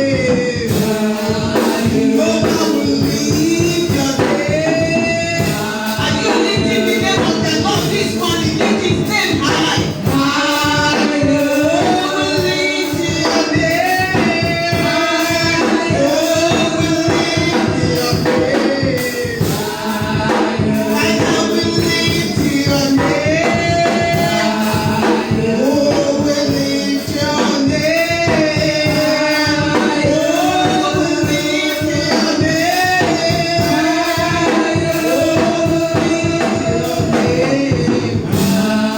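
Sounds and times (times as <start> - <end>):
group singing gospel music: 0.0 - 38.9.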